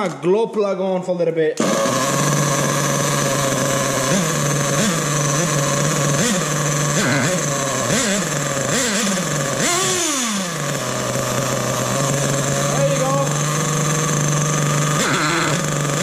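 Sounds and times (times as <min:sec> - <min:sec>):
model engine idling and revving: 0:01.6 - 0:16.0.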